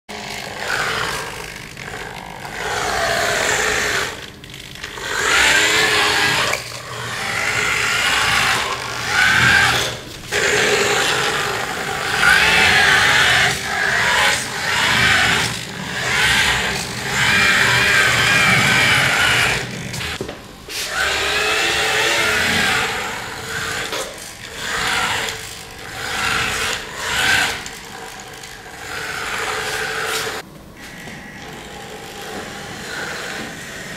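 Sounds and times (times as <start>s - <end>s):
toy motor whining and grinding: 0.1s - 20.2s, 20.8s - 33.9s.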